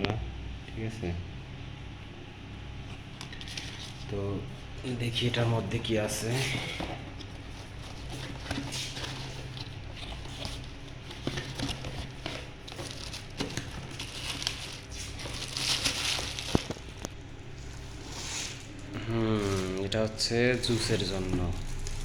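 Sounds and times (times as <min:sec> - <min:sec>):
low hum: 0:00.0 - 0:22.0
packaging rustling and crinkling: 0:02.8 - 0:22.0.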